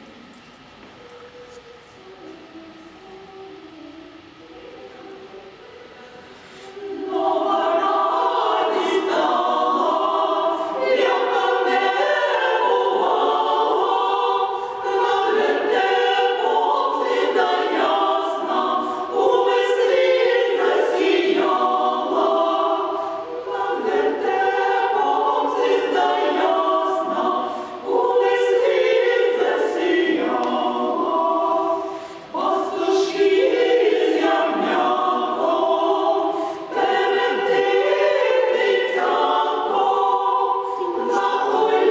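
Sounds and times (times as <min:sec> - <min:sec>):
women's choir singing a cappella: 0:00.0 - 0:41.9.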